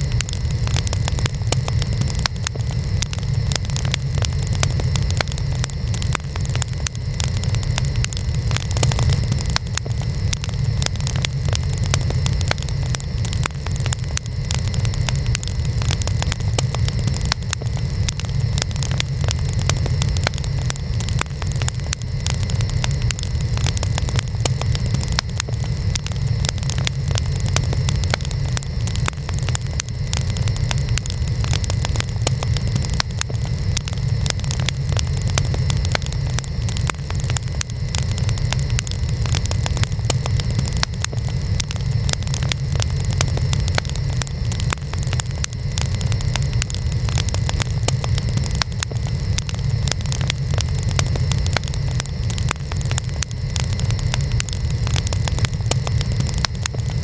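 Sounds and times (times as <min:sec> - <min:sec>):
fire low rumble: 0:00.0 - 0:57.0
wood fire crackling: 0:00.0 - 0:57.0.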